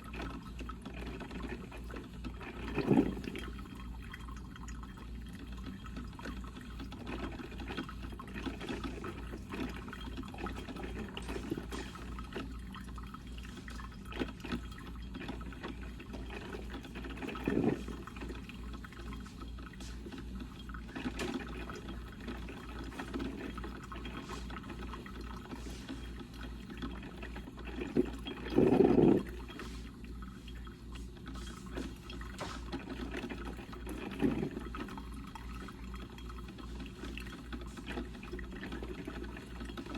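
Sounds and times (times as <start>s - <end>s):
coffee percolator bubbling: 0.0s - 39.9s.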